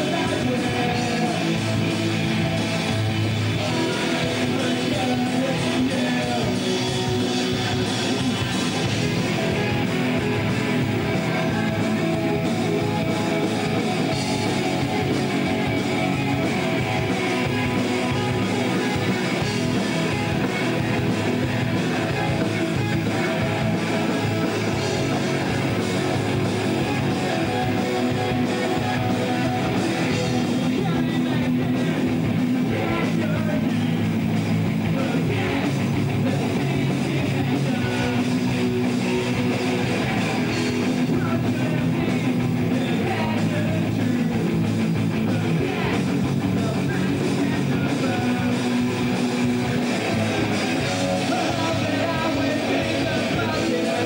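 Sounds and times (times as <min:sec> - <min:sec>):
person singing: 0:00.0 - 0:34.1, 0:34.9 - 0:44.6, 0:45.2 - 0:54.0
distorted electric guitar: 0:00.0 - 0:54.0
rock band playing live: 0:00.0 - 0:54.0.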